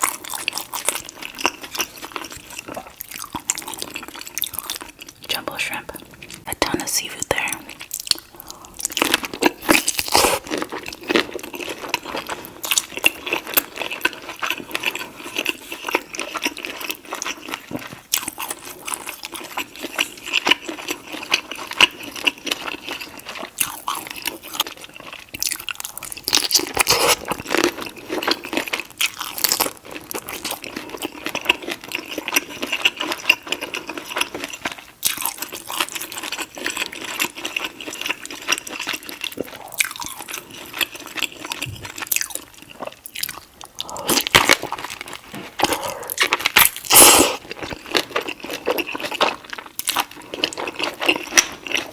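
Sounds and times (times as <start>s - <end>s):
wet chewing and biting: 0.0s - 5.2s, 7.4s - 51.9s
mouth smacks and crunches: 0.0s - 5.3s, 6.1s - 51.9s.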